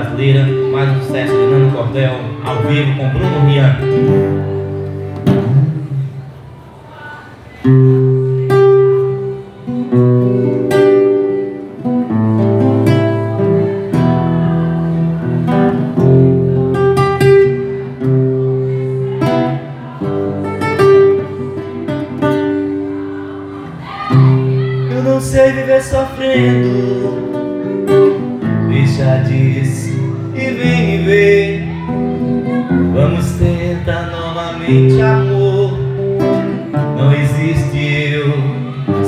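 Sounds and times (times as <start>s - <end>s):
acoustic guitar music: 0.0s - 39.0s.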